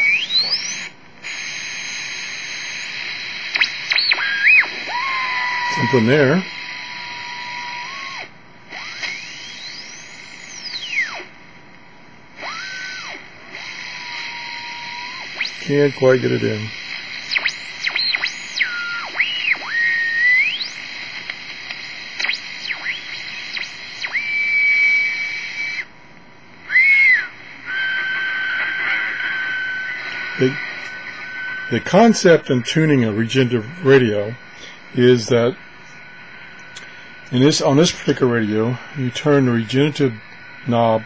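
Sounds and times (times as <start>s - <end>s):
radio band hiss: 0.0s - 11.3s, 12.4s - 25.9s, 26.6s - 41.0s
radio heterodyne whistle: 0.0s - 11.3s, 12.4s - 21.0s, 21.8s - 25.9s, 26.6s - 41.0s.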